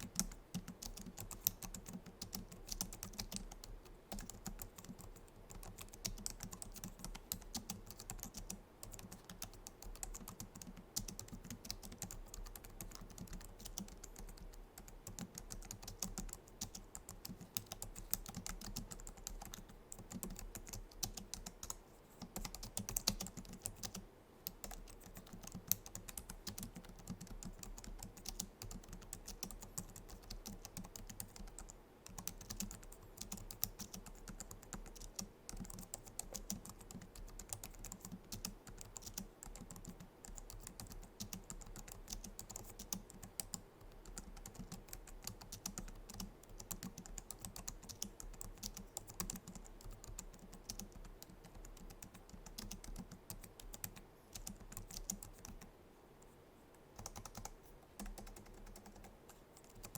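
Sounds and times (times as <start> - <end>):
fast keyboard typing: 0.0 - 55.7, 57.0 - 59.9.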